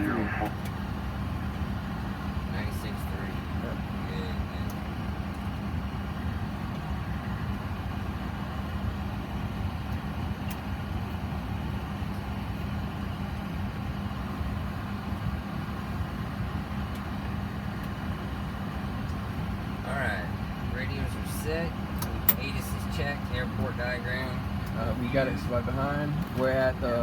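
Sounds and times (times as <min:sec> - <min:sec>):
aircraft auxiliary power unit hum: 0:00.0 - 0:27.0.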